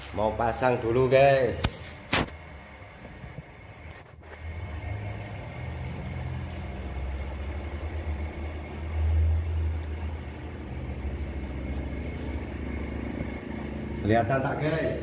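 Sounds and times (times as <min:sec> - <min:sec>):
low engine rumble: 0:02.4 - 0:15.0.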